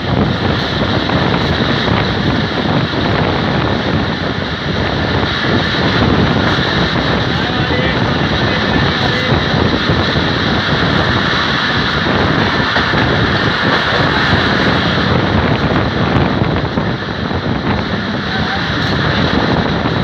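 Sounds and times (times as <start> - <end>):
train wheel and track rumble: 0.0 - 20.0
wind buffeting microphone: 0.0 - 20.0.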